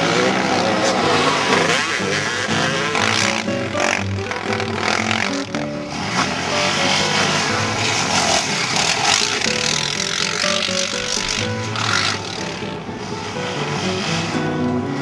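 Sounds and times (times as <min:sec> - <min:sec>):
background music: 0:00.0 - 0:15.0
quad engine revving: 0:00.0 - 0:15.0.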